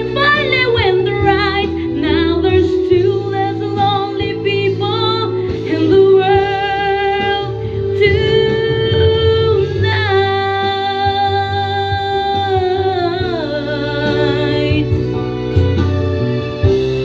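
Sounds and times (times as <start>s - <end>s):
woman singing with vibrato: 0.0s - 15.1s
karaoke backing track with guitar: 0.0s - 17.0s.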